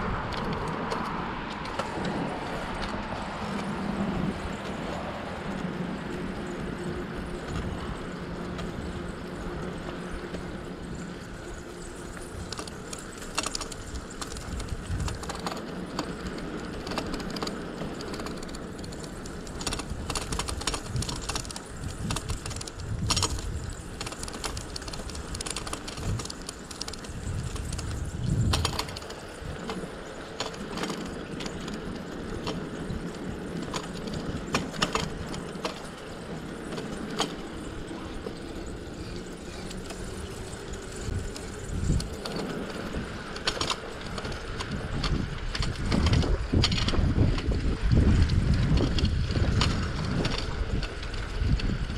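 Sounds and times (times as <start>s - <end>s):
bicycle clicks and rattles: 0.0s - 51.9s
steady rushing noise: 0.0s - 51.9s.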